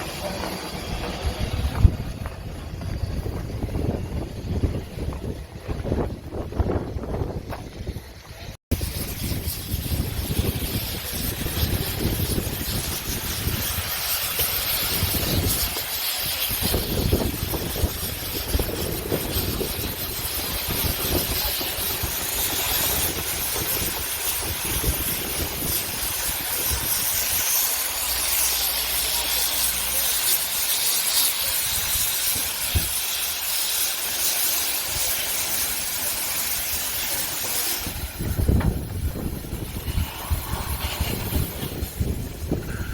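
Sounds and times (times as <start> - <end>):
wind buffeting microphone: 0.0 - 28.5, 30.6 - 33.5, 34.5 - 42.9
steam engine hissing: 0.0 - 42.9.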